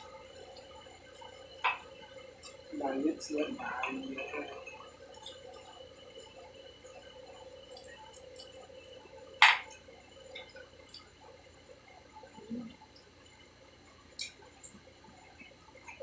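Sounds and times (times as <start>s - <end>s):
eating and drinking sounds: 0.0s - 16.0s.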